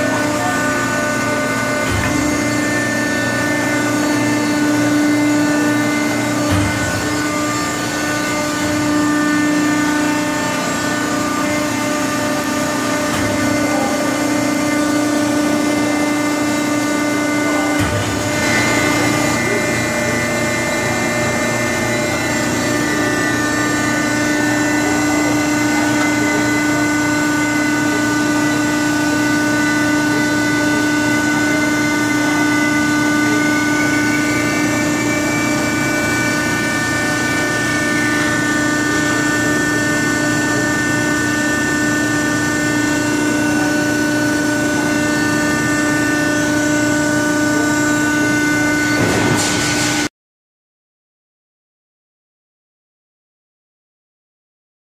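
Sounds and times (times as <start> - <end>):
high whine: 0.0 - 50.1
press brake machine hum: 0.0 - 50.1.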